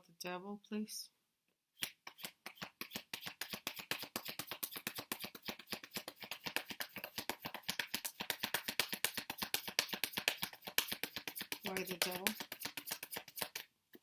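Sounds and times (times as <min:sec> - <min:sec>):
cards being shuffled: 0:01.8 - 0:13.7.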